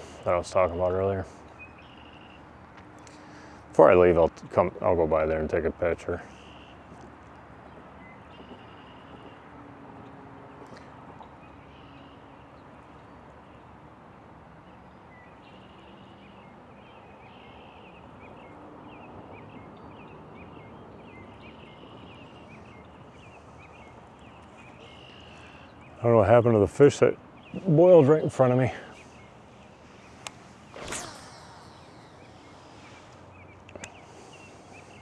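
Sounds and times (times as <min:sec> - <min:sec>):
birds chirping: 0:00.0 - 0:09.5, 0:11.2 - 0:35.0
faint outdoor background hiss: 0:00.0 - 0:35.0.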